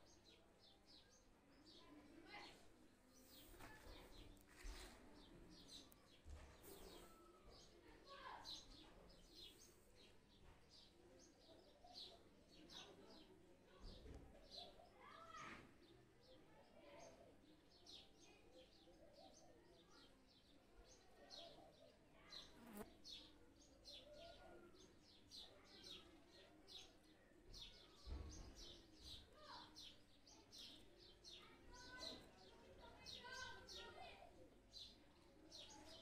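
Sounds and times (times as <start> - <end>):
low background murmur: 0.0 - 36.0
small birds chirping: 0.0 - 36.0.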